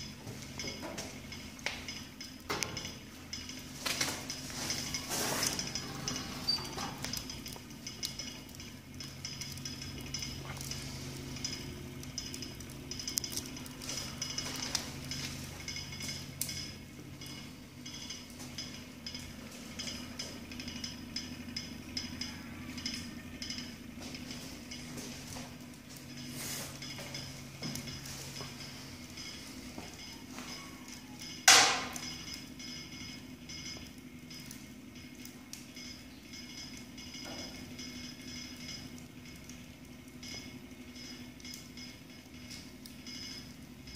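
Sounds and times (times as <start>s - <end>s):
steady low hum: 0.0s - 43.9s
wood fire crackling: 0.0s - 43.9s
small pops and clinks: 0.6s - 43.9s.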